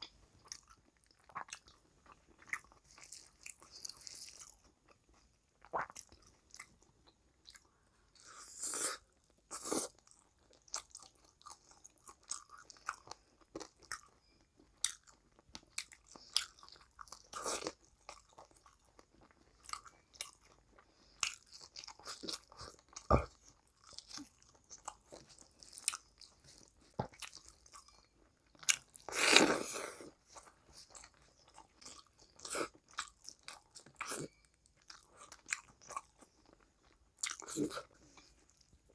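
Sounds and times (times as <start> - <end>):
chewing with mouth clicks: 0.0 - 38.9.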